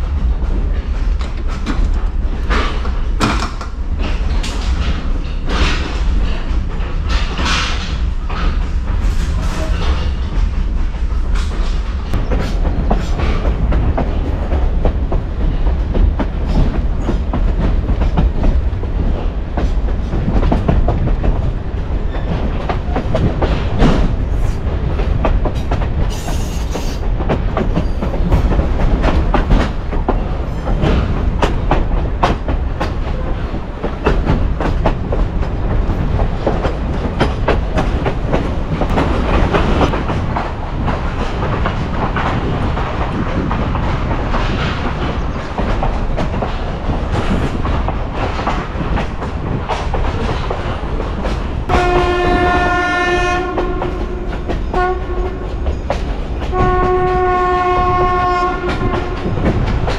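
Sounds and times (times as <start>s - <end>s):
train wheels clacking: 0.0s - 59.9s.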